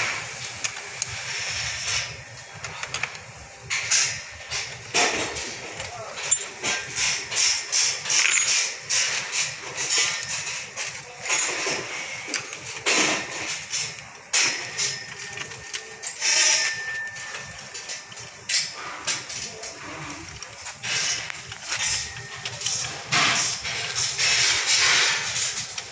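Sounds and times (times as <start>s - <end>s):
metal tools tapping and scraping: 1.0s - 25.9s.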